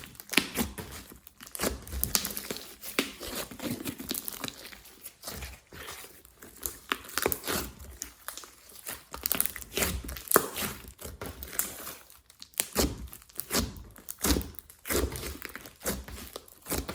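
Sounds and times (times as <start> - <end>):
hands squeezing slime: 0.0 - 16.9.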